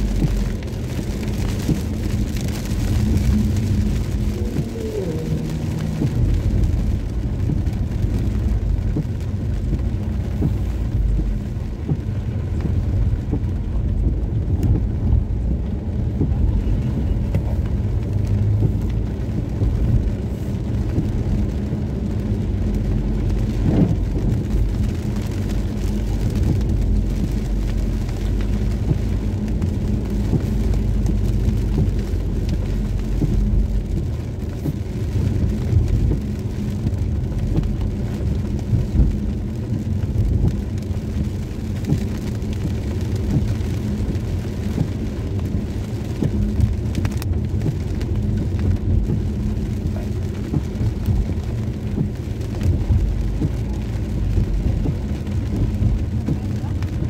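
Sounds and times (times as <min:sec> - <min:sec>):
car and tyres rumbling: 0:00.0 - 0:57.0
rain pattering on car: 0:00.0 - 0:57.0.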